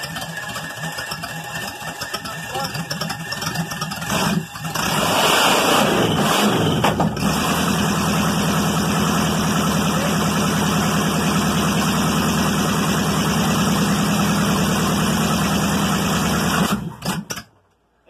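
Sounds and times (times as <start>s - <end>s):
engine idling: 0.0s - 5.0s, 6.6s - 17.5s.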